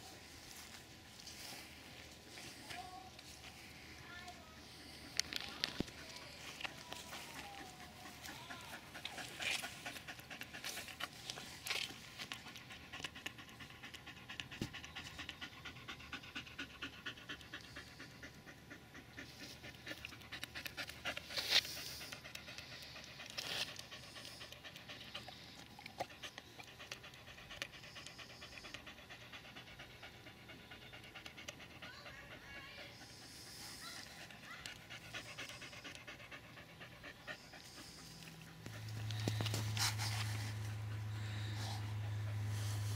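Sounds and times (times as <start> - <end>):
dog panting: 0.0 - 42.9.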